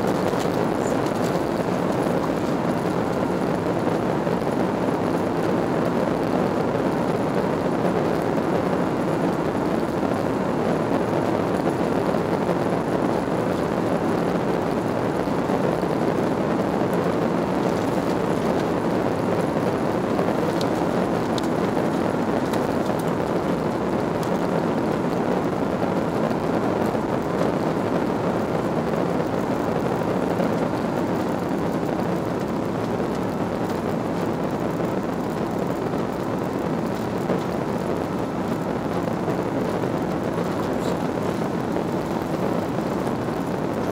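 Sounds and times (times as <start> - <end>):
jet engines and rushing air: 0.0 - 43.9.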